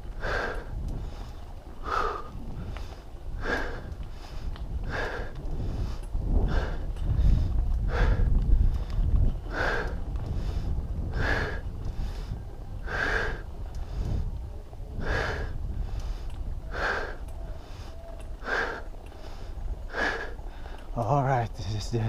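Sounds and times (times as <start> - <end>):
cyclist breathing hard: 0.0 - 21.0
steady low rumble: 0.0 - 22.0.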